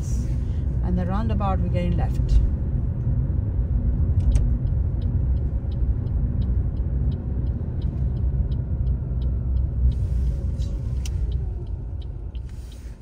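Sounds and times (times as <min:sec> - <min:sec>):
car engine and road noise: 0:00.0 - 0:13.0
turn indicator ticking: 0:00.7 - 0:13.0.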